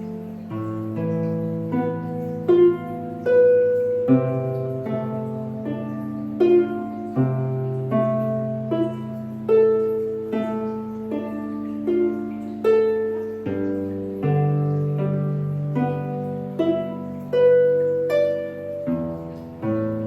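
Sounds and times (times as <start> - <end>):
plucked harp notes: 0.0 - 20.0.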